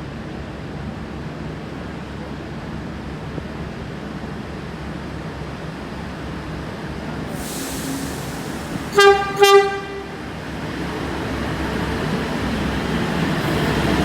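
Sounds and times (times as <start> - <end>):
diesel railcar engine rumble: 0.0 - 14.0.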